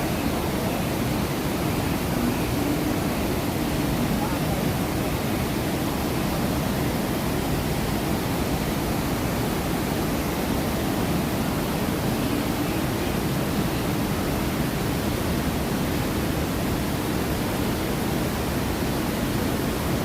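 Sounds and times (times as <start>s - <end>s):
water rushing over waterfalls: 0.0s - 20.0s.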